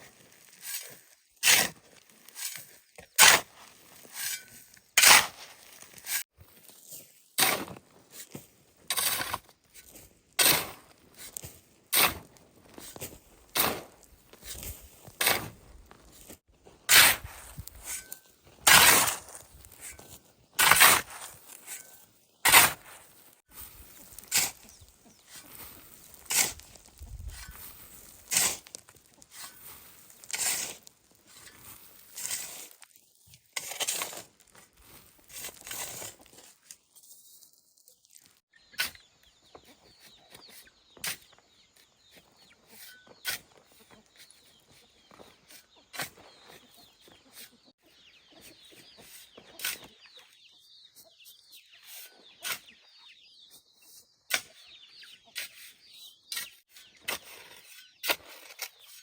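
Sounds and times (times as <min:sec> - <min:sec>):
hand tool scraping cement and gravel: 0:00.0 - 0:50.1, 0:50.8 - 0:59.0.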